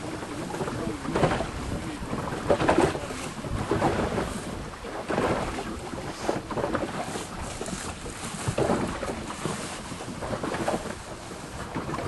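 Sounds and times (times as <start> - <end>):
choppy water: 0.0 - 12.0
wind buffeting microphone: 0.0 - 12.0.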